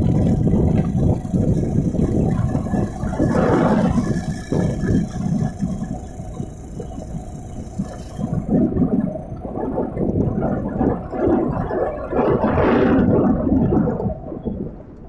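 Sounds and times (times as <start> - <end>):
road noise: 0.0 - 15.0
vehicle engine rumbling: 0.0 - 15.0.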